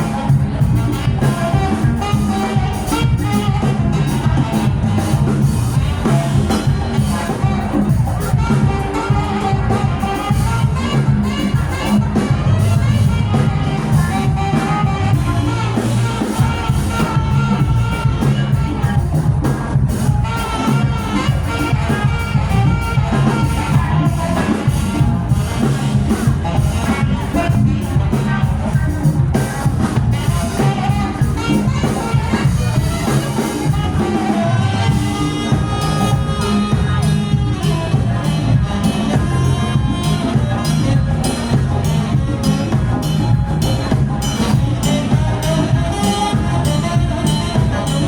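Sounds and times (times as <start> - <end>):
bass line: 0.0 - 48.0
drum kit: 0.0 - 48.0
held melodic notes: 0.0 - 48.0
live band playing: 0.0 - 48.0.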